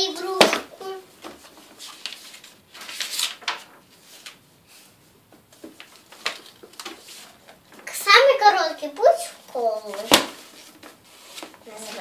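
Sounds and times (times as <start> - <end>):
magazine pages rustling: 0.1 - 8.0, 9.7 - 12.0.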